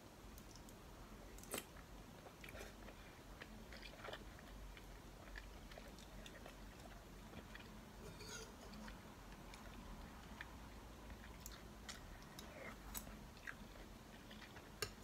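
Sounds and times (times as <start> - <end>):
chewing soup: 0.3 - 15.0.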